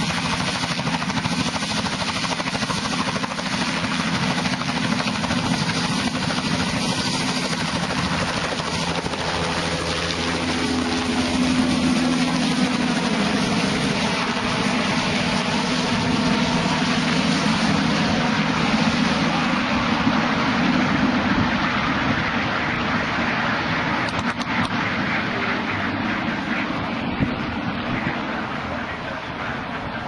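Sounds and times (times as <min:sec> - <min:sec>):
helicopter rotor chopping: 0:00.0 - 0:30.0.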